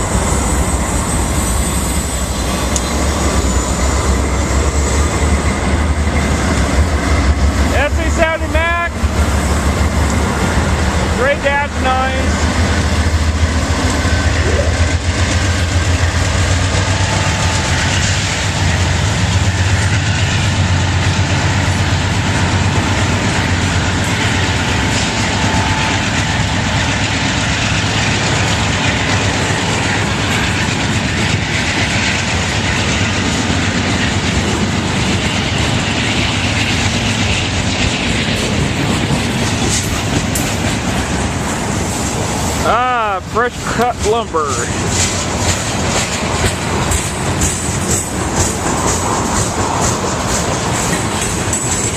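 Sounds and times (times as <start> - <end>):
freight train cars rolling: 0.0 - 51.9.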